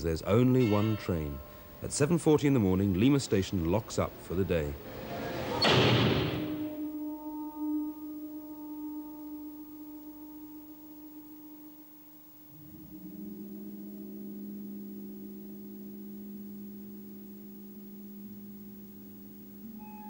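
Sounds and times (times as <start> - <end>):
music of slow ringing tones: 0.0 - 4.9, 6.6 - 20.0.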